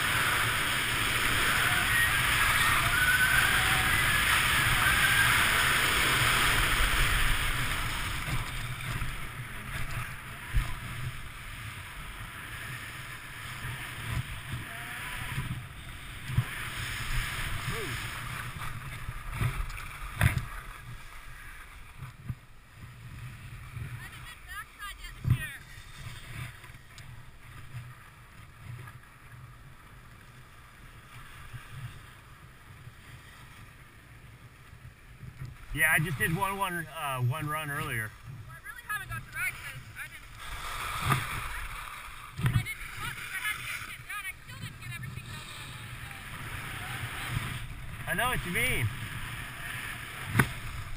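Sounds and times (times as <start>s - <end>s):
skis sliding over packed snow: 0.0s - 50.9s.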